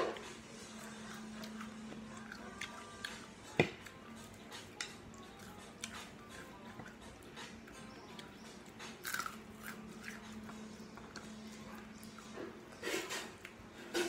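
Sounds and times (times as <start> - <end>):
person chewing raw vegetables: 0.0 - 13.7.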